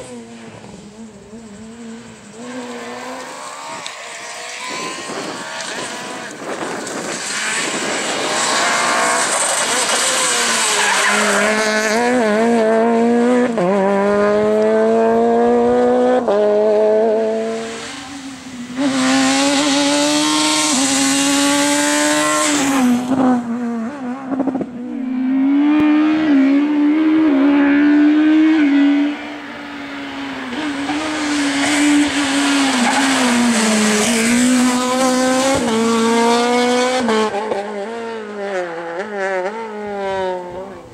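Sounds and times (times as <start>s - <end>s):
rally car engines revving past: 0.0s - 40.9s.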